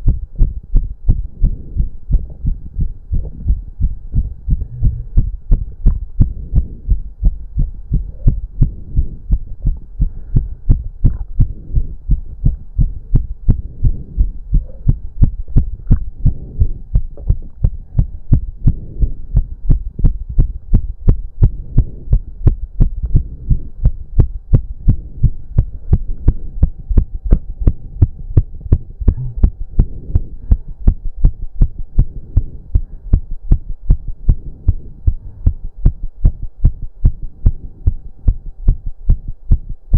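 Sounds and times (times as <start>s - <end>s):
faint steady hum: 0.0s - 39.9s
fast heartbeat thumps: 0.0s - 39.9s.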